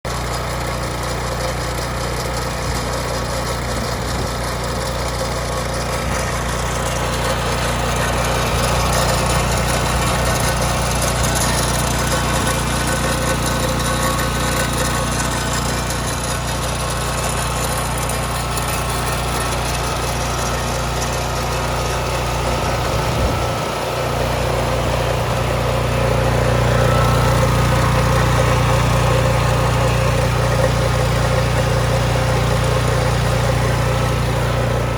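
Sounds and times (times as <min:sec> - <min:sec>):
petrol engine running: 0:00.1 - 0:34.9.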